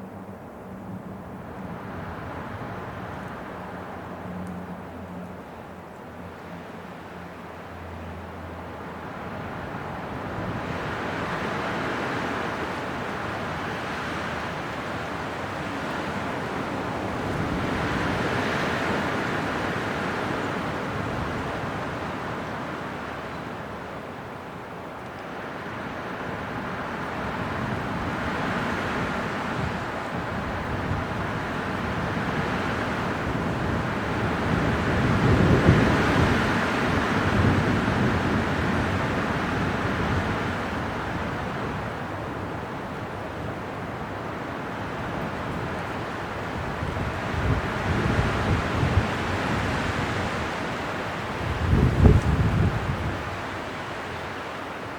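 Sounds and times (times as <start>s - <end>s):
wind blowing in gusts: 0.0s - 54.9s.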